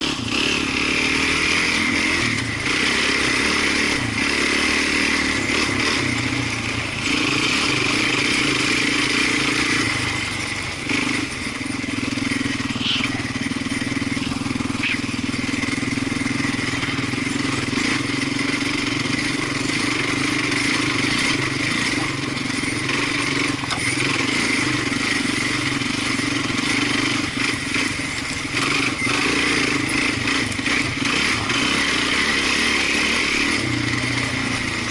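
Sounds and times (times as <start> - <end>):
off-road vehicle engine running: 0.0 - 34.9.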